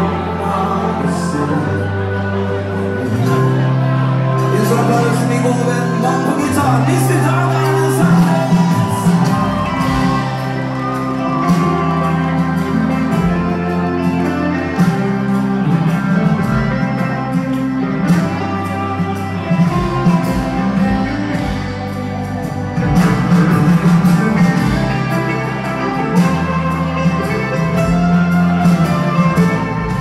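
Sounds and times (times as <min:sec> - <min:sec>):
live country rock band: 0:00.0 - 0:30.0.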